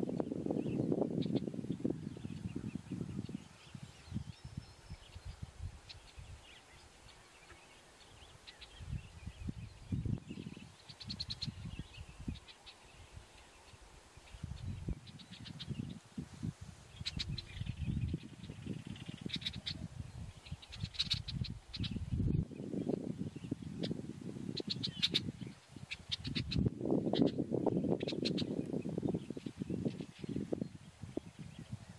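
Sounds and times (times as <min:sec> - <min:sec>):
small birds chirping: 0:00.0 - 0:16.2, 0:16.8 - 0:31.9.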